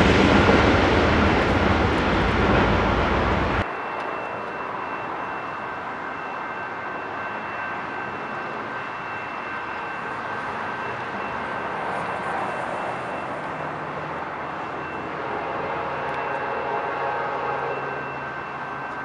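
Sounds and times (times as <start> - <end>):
diesel locomotive engine drone: 0.0 - 19.0
freeway traffic roar: 0.0 - 19.0.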